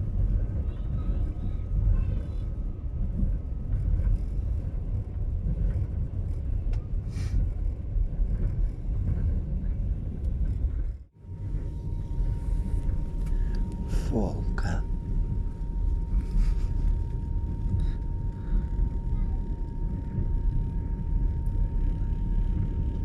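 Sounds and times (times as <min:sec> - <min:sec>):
faint steady whine: 0:00.0 - 0:23.0
train rumbling: 0:00.0 - 0:23.0.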